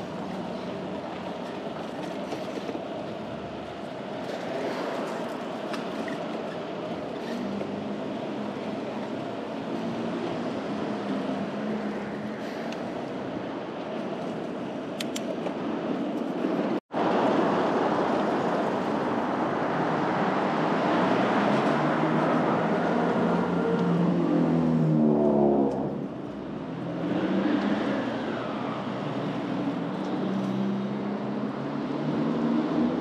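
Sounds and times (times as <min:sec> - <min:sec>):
city traffic noise: 0:00.0 - 0:33.0.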